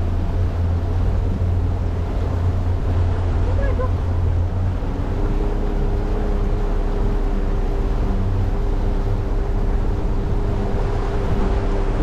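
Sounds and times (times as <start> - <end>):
motorboat engine whine: 0.0 - 12.0
water rumbling against hull: 0.0 - 12.0.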